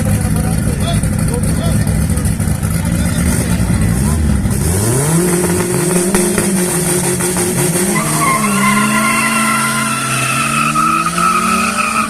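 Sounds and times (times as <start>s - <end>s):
drag cars racing: 0.0s - 12.0s.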